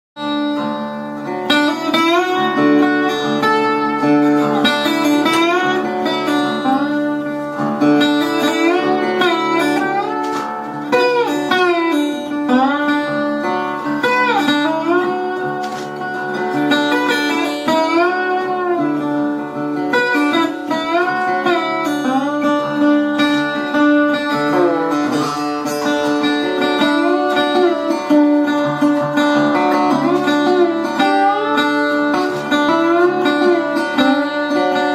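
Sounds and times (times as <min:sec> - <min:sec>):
guitar sliding notes: 0:00.2 - 0:34.9.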